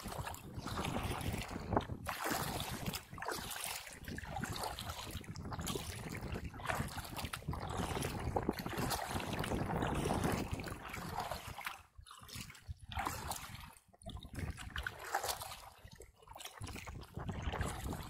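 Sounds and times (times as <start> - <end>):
water lapping around kayak: 0.0 - 18.0.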